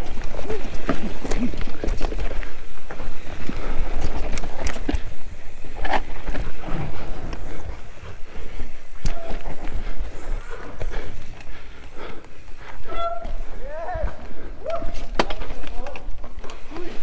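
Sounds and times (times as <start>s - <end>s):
bike chain and frame rattling: 0.0s - 17.0s
bike tyres rolling over rocks: 0.0s - 17.0s.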